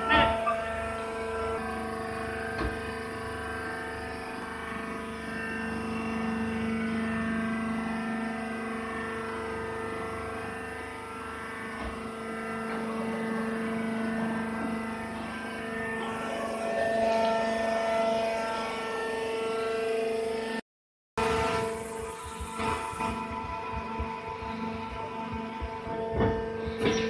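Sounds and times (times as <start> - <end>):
hydraulic pump motor humming: 0.0 - 20.4, 21.2 - 27.0.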